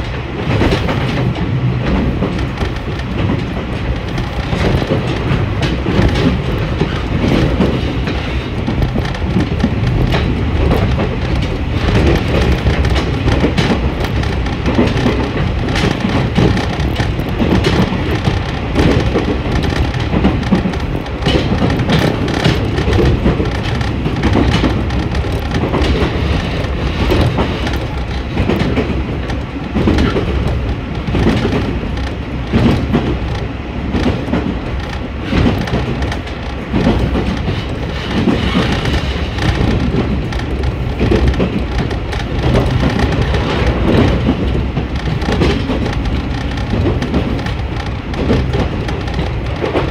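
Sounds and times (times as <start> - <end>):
engine and wheels rumbling: 0.0 - 49.9
track knocks and clicks: 0.0 - 49.9.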